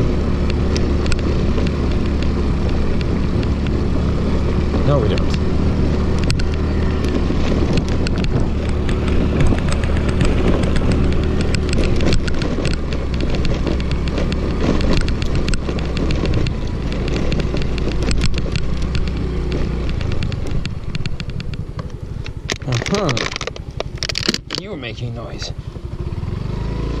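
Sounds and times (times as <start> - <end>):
rattles and clicks from bike: 0.0 - 27.0
scooter engine running: 0.0 - 27.0.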